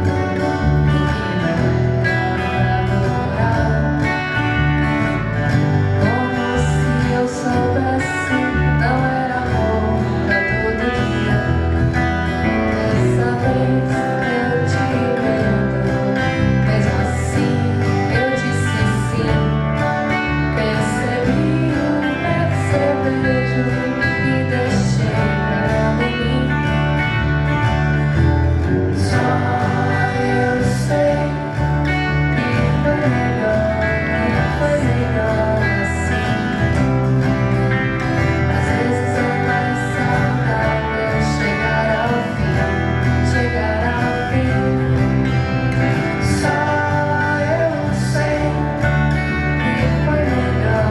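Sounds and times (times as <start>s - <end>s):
person singing: 0.0s - 27.5s, 28.6s - 50.9s
acoustic guitar: 0.0s - 50.9s
bass line: 0.0s - 50.9s.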